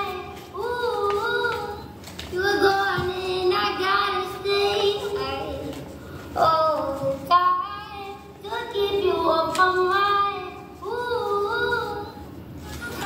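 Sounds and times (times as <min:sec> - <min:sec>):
child singing unaccompanied: 0:00.0 - 0:13.0.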